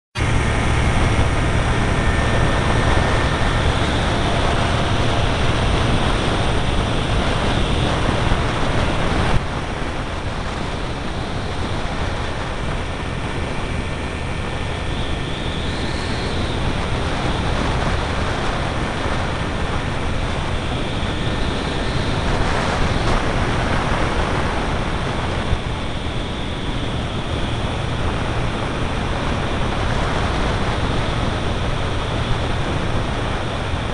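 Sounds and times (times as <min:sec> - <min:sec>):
aircraft engine running: 0:00.2 - 0:33.9
wind on microphone: 0:00.2 - 0:33.9.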